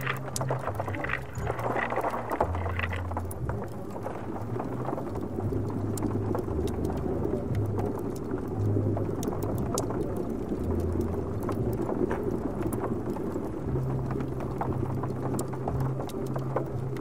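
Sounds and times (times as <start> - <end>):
low rumbling hum: 0.0 - 17.0
rain on window: 0.0 - 17.0
wood-stove fire crackling: 0.0 - 17.0.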